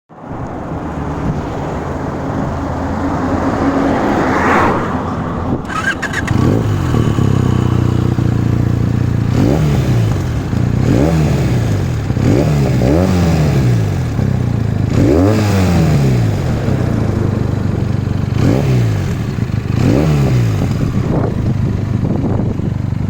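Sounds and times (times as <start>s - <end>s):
motorcycle engine idling and revving: 0.4s - 23.0s.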